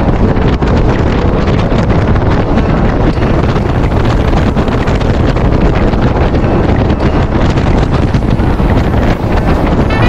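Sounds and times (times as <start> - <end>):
boat engine: 0.0 - 10.0
wind buffeting microphone: 0.0 - 10.0.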